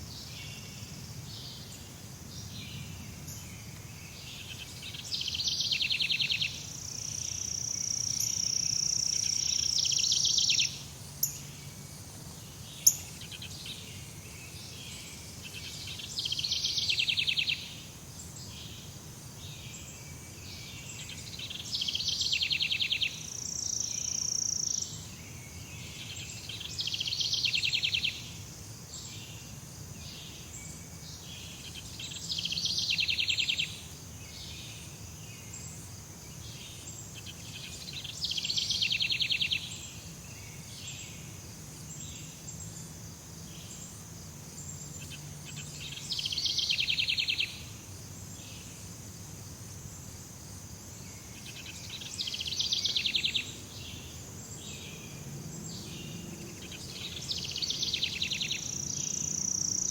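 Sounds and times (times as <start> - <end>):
rapidly pulsing insect call: 0.0 - 59.9
high insect drone: 0.1 - 59.9.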